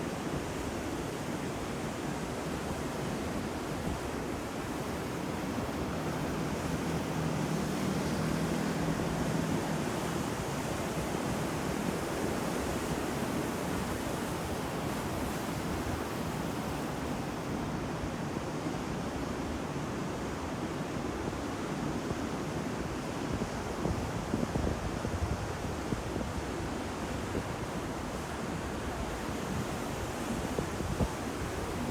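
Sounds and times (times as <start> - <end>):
ocean waves breaking on shore: 0.0 - 31.9.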